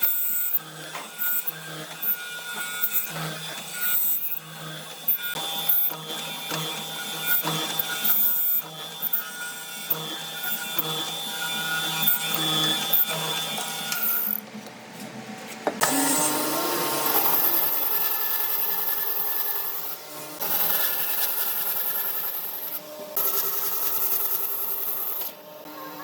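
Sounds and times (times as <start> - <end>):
power tool cutting wood: 0.0 - 14.4, 15.8 - 26.0.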